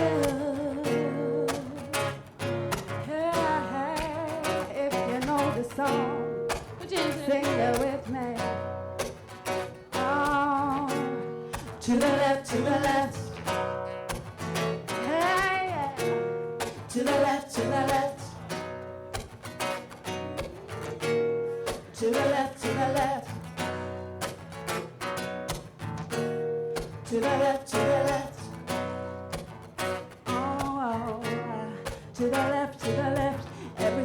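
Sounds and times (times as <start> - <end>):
vocal group singing in harmony: 0.0 - 8.6, 9.5 - 14.0, 14.6 - 18.8, 20.1 - 24.2, 26.8 - 29.0, 30.3 - 34.0
strummed acoustic guitar: 0.0 - 34.0.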